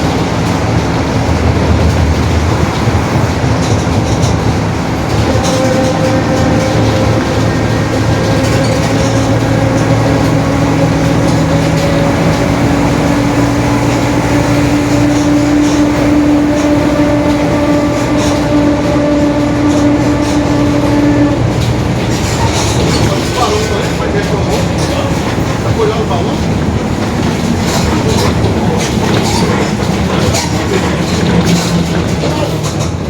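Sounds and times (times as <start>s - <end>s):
bus diesel and road rumble: 0.0s - 33.0s.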